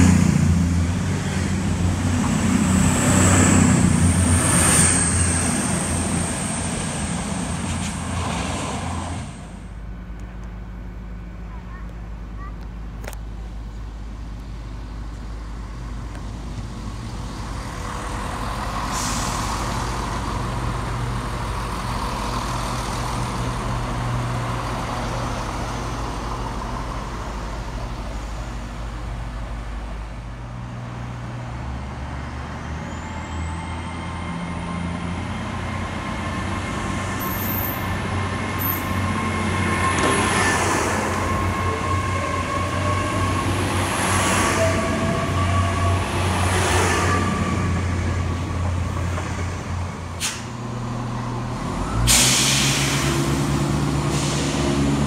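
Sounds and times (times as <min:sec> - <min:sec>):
diesel train engine droning: 0:00.0 - 0:55.0.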